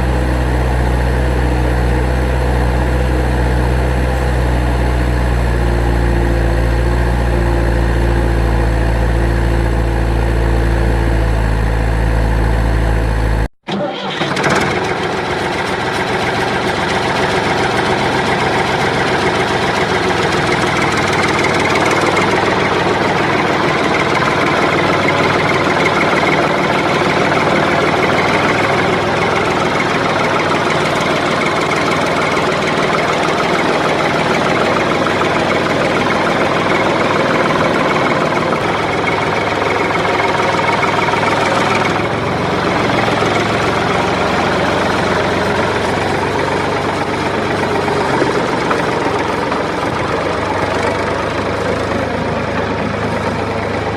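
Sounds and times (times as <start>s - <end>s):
motor running noisier and higher: 0.0s - 13.5s, 14.2s - 53.9s.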